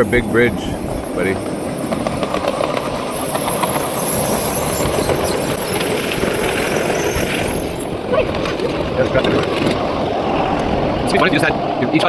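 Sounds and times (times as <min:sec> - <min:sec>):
miniature train wheels clattering: 0:00.0 - 0:12.0.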